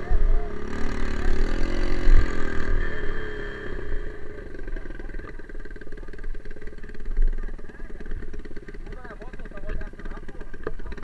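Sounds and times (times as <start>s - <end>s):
motorcycle engine chugging: 0.0s - 11.0s.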